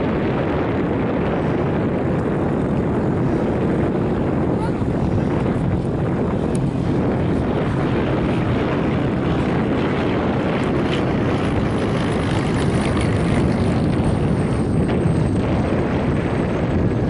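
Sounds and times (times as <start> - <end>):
turboprop engines running: 0.0 - 17.0.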